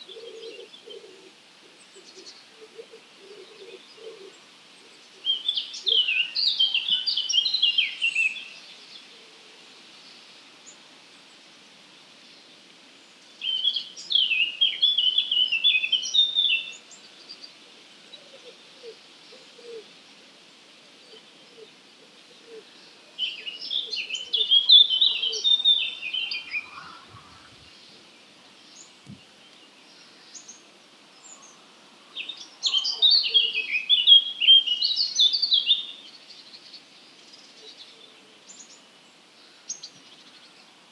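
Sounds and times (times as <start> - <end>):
faint background hiss: 0.0 - 40.9
songbird singing: 0.0 - 40.9.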